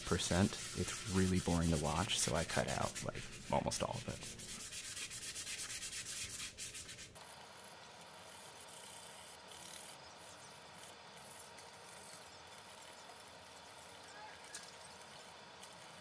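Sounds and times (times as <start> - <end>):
sandpaper rubbing foil: 0.0 - 16.0.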